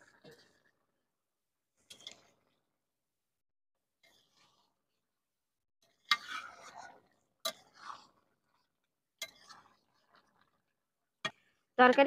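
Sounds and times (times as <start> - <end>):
scraping stirring noise: 0.0 - 1.1, 1.7 - 2.8, 3.8 - 11.8.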